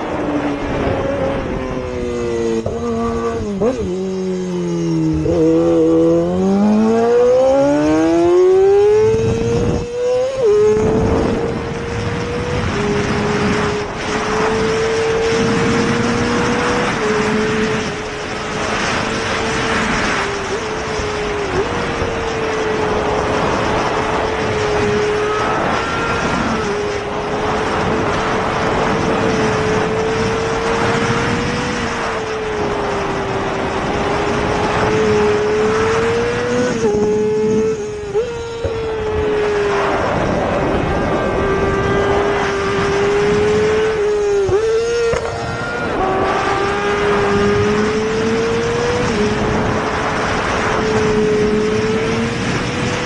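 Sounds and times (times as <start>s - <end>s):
motorcycle engine running hard: 0.0s - 53.0s
rushing wind: 0.0s - 53.0s.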